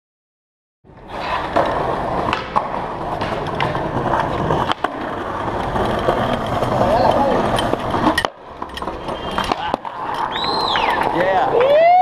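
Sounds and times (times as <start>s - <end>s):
skateboard clicks and knocks: 0.9s - 12.0s
skateboard wheels rolling on asphalt: 0.9s - 12.0s.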